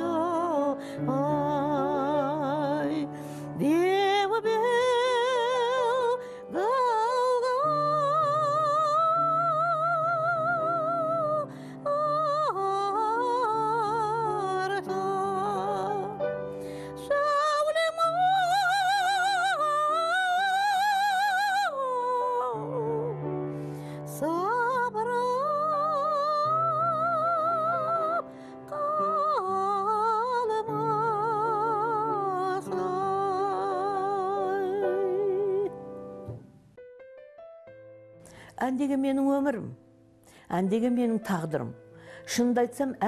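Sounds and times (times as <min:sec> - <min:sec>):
woman singing opera: 0:00.0 - 0:35.8, 0:40.5 - 0:43.0
piano accompaniment: 0:00.0 - 0:43.0.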